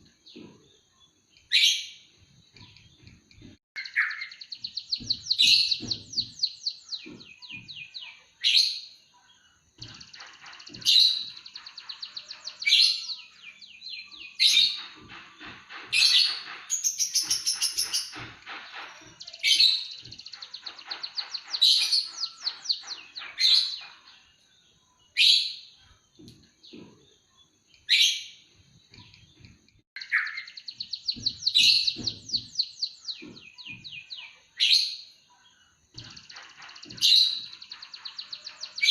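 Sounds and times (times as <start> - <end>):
bird singing trills: 0.0 - 38.9.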